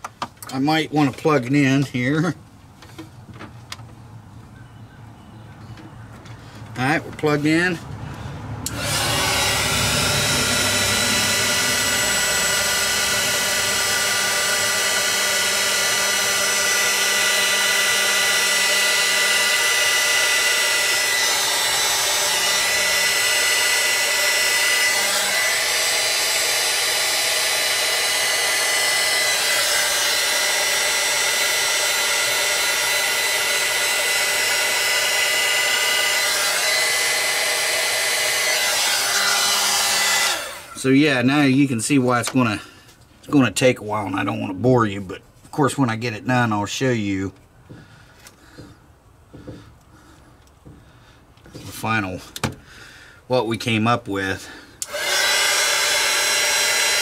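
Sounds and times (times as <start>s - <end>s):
heat gun fan whining: 6.1s - 57.0s.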